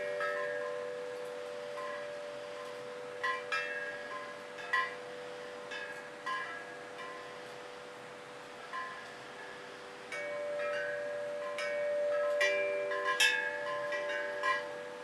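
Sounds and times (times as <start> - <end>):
tube chimes ringing: 0.0 - 8.0, 8.8 - 15.0.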